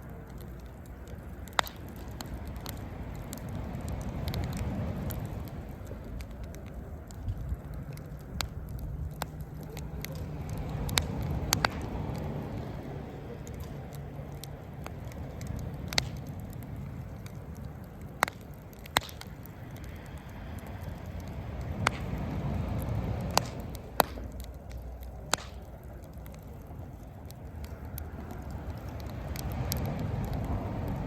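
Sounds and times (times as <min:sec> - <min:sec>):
campfire crackles and pops: 0:00.0 - 0:31.0
low fire rumble: 0:00.0 - 0:31.0.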